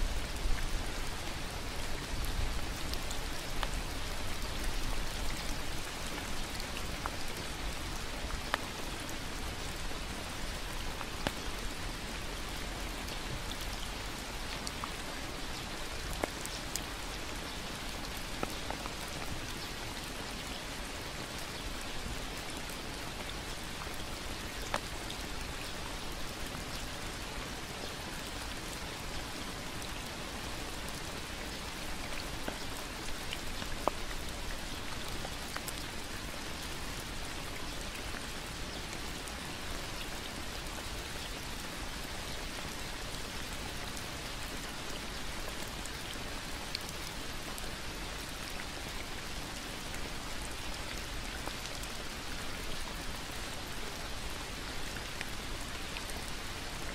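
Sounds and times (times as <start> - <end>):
rain on leaves and wood: 0.0 - 56.9.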